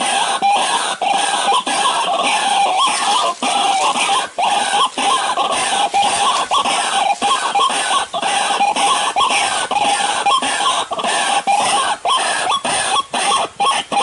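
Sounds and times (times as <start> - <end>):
waterhen harsh repeated calls: 0.0 - 14.0.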